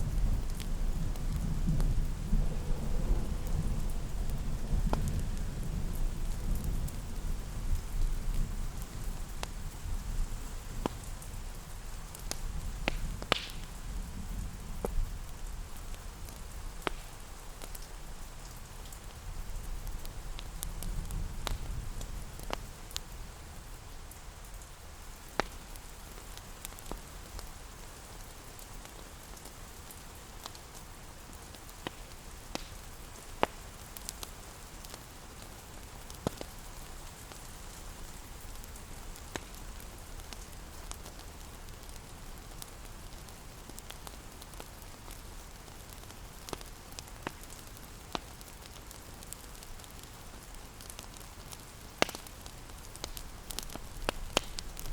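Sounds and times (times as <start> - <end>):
rain hiss: 0.0 - 54.9
wood fire crackling: 0.0 - 54.9.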